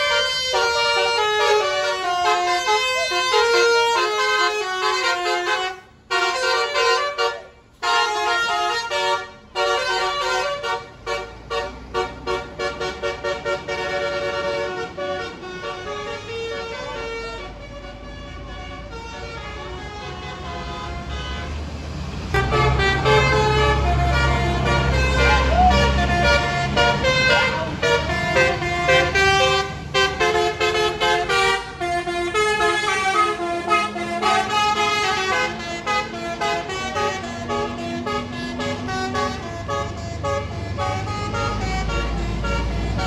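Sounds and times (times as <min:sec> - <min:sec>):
musical air horn melody: 0:00.0 - 0:21.6, 0:22.3 - 0:43.0
bus engine rumble: 0:00.0 - 0:43.0.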